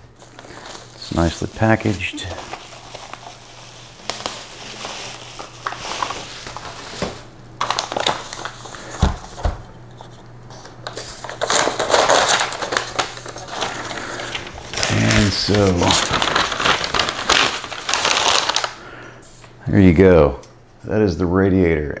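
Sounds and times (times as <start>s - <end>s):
bubble wrap crinkling: 0.0s - 19.6s
paper wrapping rustling: 0.0s - 19.6s.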